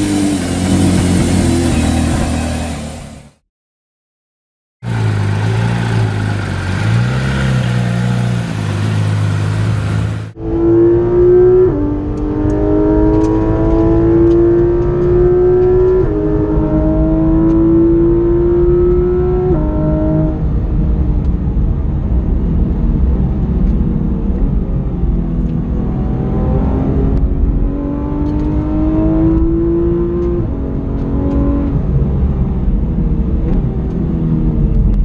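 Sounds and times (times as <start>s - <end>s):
car engine accelerating hard: 0.0s - 3.4s, 4.8s - 35.0s
low engine hum: 4.8s - 35.0s.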